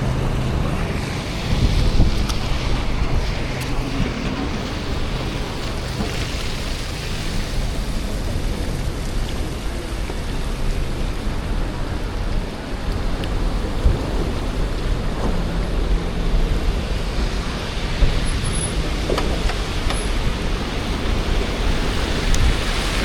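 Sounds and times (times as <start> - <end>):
city traffic rumble: 0.0 - 23.0
wind buffeting microphone: 0.0 - 23.0.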